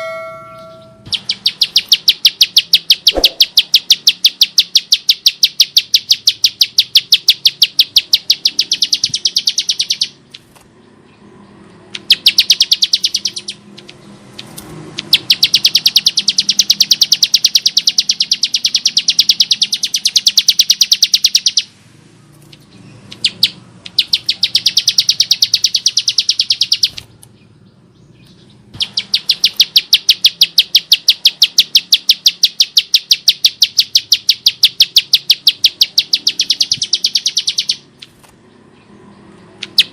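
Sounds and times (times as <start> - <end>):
bird calling in clicking trains: 0.0 - 10.6, 11.6 - 21.7, 22.4 - 27.4, 28.2 - 39.9.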